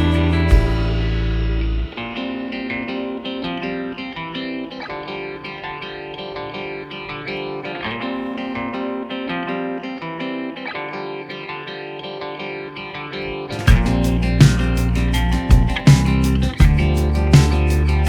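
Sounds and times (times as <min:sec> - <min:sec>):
plucked guitar tune: 0:00.0 - 0:18.0.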